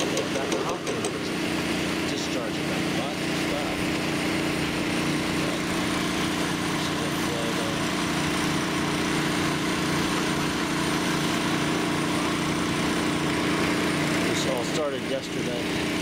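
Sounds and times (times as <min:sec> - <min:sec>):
water pump engine droning: 0:00.0 - 0:16.0.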